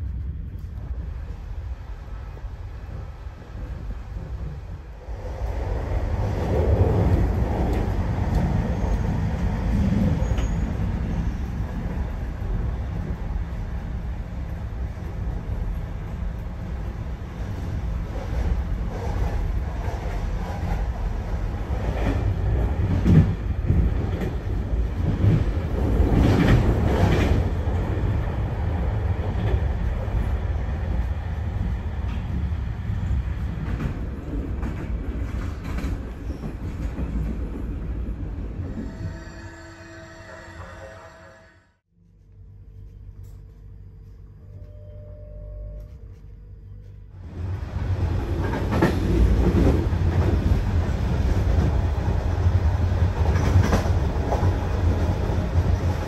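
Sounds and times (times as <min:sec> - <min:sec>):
train wheels rumbling on rails: 0:00.0 - 0:39.6, 0:45.8 - 0:56.0.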